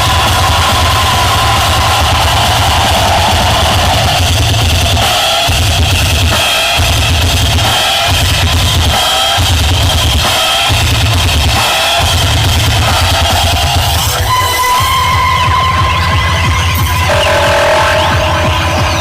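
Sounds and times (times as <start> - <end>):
loud music with heavy bass: 0.0 - 19.0.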